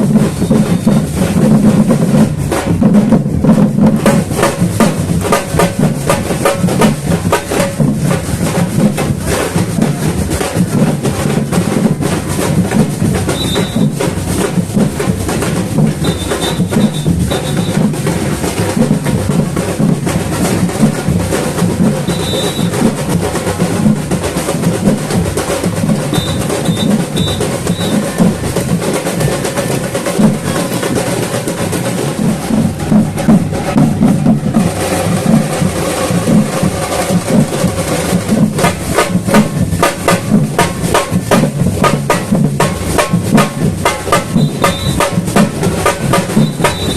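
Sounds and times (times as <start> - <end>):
samba drum ensemble: 0.0 - 46.9.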